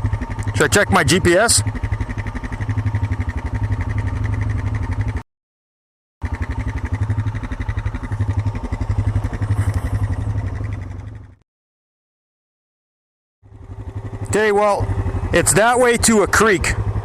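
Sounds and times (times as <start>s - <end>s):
atv engine idling: 0.0s - 5.2s, 6.2s - 11.4s, 13.4s - 17.0s.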